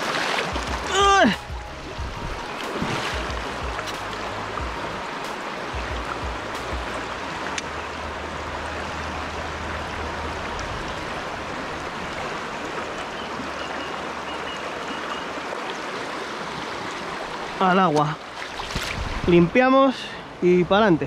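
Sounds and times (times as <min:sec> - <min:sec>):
river rushing over stones: 0:00.0 - 0:20.6.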